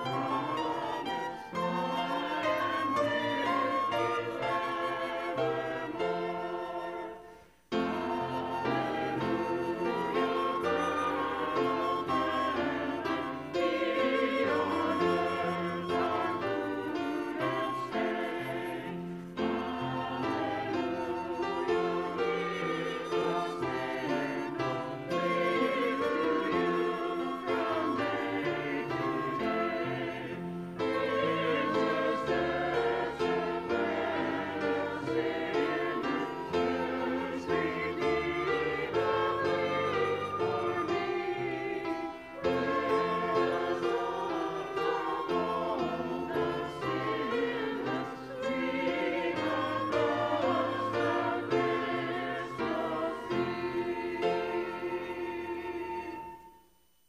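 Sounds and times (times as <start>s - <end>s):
choir singing a hymn: 0.0s - 56.6s
piano accompaniment: 0.0s - 56.7s.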